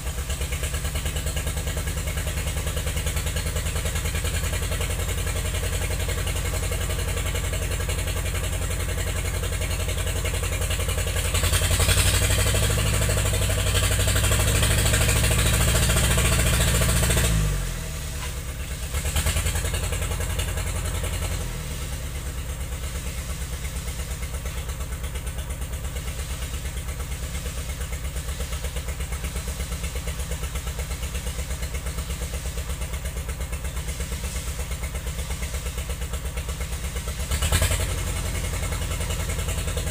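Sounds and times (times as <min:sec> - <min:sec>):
log skidder engine revving and idling: 0:00.0 - 0:39.9.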